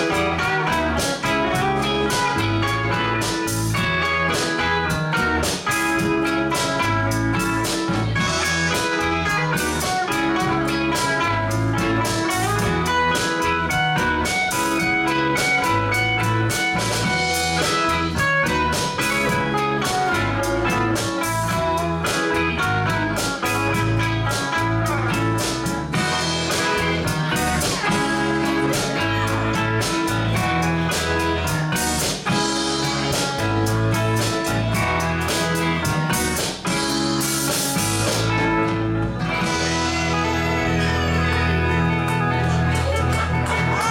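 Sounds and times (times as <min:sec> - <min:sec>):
bass guitar: 0:00.0 - 0:43.9
drum kit beat: 0:00.0 - 0:43.9
electric guitars: 0:00.0 - 0:43.9
keyboard: 0:00.0 - 0:43.9.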